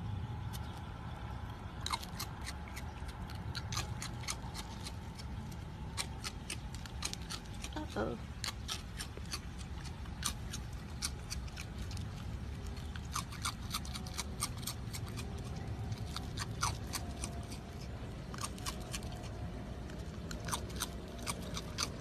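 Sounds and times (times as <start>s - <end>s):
raccoon chewing crunchy cereal: 0.3s - 22.0s.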